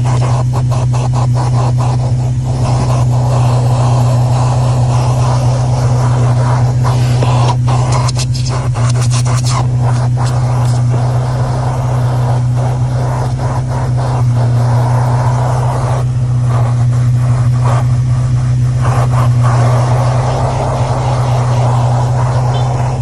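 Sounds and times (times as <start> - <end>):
air rushing through nozzle: 0.0 - 23.0
vacuum cleaner running: 0.0 - 23.0.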